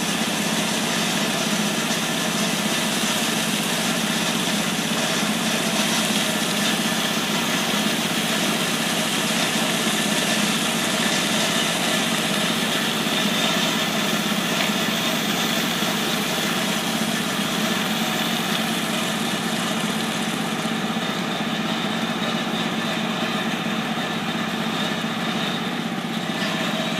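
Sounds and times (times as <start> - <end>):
engine and pump humming: 0.0 - 26.9.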